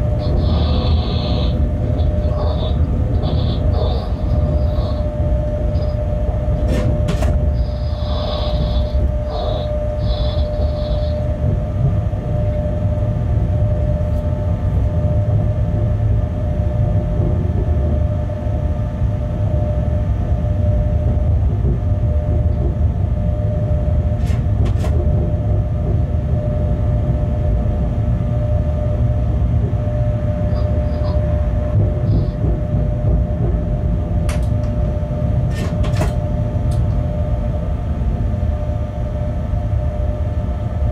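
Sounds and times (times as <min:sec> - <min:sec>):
constant whine: 0:00.0 - 0:40.9
locomotive rumble: 0:00.0 - 0:40.9.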